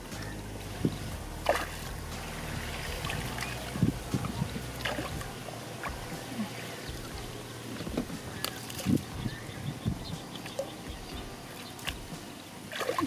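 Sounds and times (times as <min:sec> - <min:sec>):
low steady hum: 0:00.0 - 0:12.8
water splashing and sloshing: 0:00.0 - 0:13.0.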